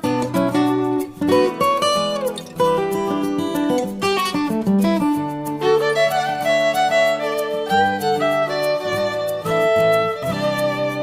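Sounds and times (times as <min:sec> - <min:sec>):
plucked guitar: 0:00.0 - 0:11.0
violin melody: 0:00.0 - 0:11.0.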